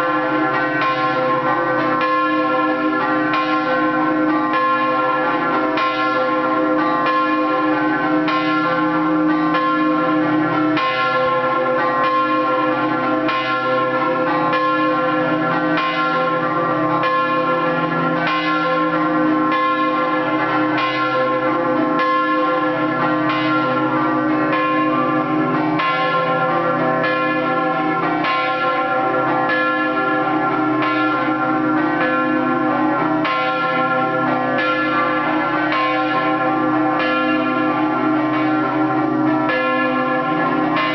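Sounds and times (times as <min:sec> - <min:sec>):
church bells struck by hand: 0:00.0 - 0:40.9.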